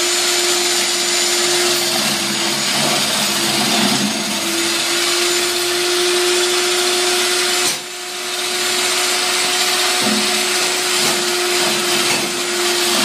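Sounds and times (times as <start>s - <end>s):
slicing machine motor whirring: 0.0s - 13.0s.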